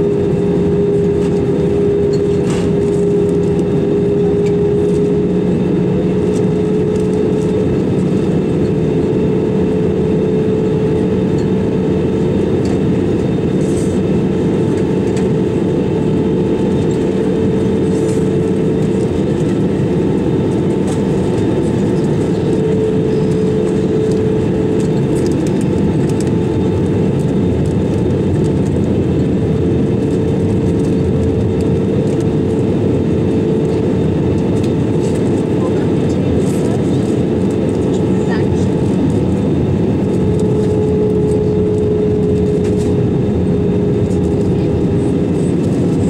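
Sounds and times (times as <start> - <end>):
aircraft cabin air and engine noise: 0.0 - 46.0.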